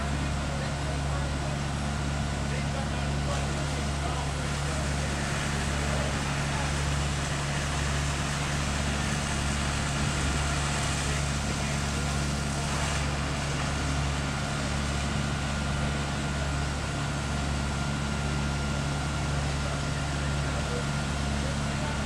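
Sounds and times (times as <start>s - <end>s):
diesel motors running: 0.0s - 22.0s.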